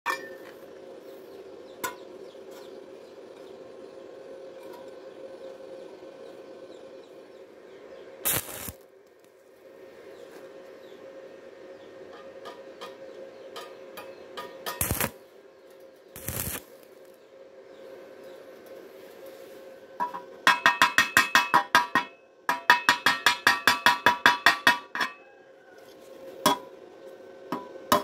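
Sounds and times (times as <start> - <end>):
welding machine electrical hum: 0.1 - 25.0.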